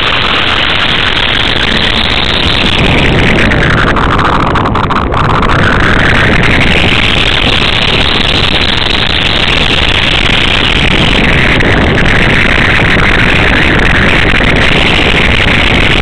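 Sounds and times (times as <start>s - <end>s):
electric motor and propeller drone: 0.0s - 16.0s
wind noise: 0.0s - 16.0s.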